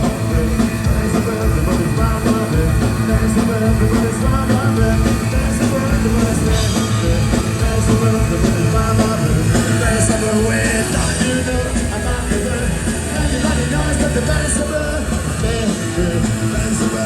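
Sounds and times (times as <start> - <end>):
person singing: 0.0 - 17.0
punk rock band playing: 0.0 - 17.0.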